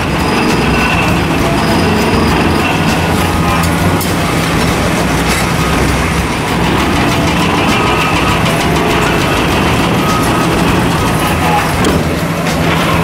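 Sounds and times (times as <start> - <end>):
diesel engine under load: 0.0 - 13.0
hydraulic hammer rattling clatter: 0.0 - 13.0.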